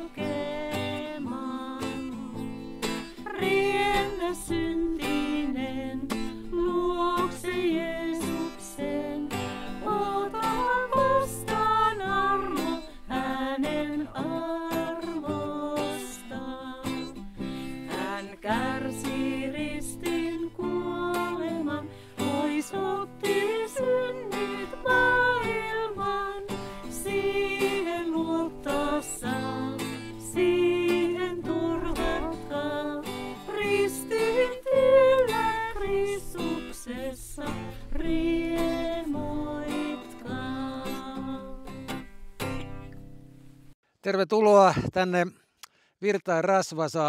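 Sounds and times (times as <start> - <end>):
group singing a hymn: 0.0 - 42.0
strummed acoustic guitar: 0.0 - 43.6.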